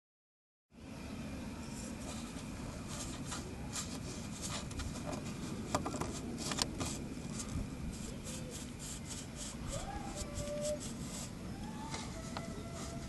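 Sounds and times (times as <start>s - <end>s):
steady low rumble: 0.9s - 11.7s
foam swab scrubbing grille: 1.8s - 13.0s.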